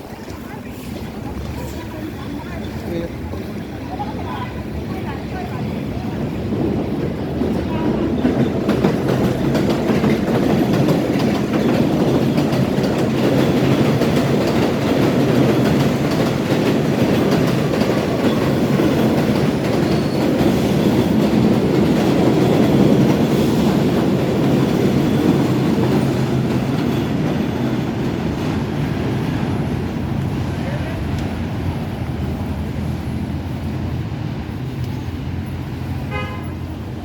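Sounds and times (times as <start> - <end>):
wheels clattering on rail joints: 0.0 - 33.8
subway train rumbling: 0.0 - 37.0.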